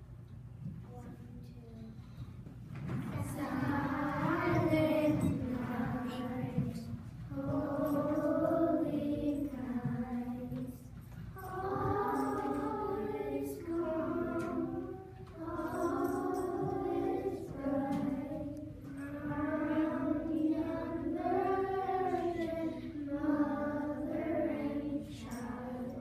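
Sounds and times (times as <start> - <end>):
children singing in unison: 3.1 - 26.0.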